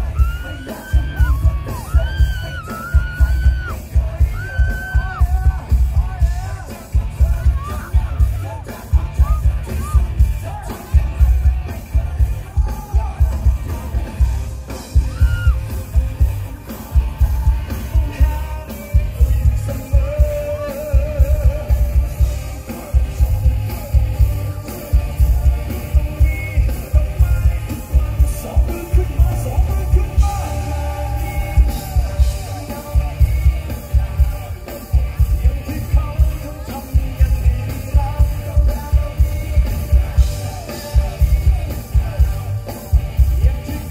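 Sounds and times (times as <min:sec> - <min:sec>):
person singing: 0:00.0 - 0:43.9
thumping bass beat: 0:00.0 - 0:43.9.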